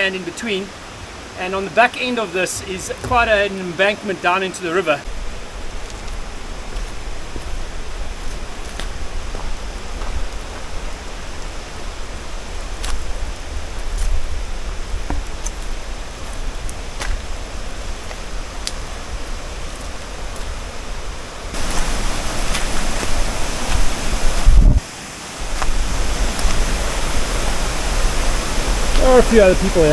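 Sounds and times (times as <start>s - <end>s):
river water rushing: 0.0s - 14.0s, 15.9s - 29.9s
wind rumbling on microphone: 5.1s - 29.9s.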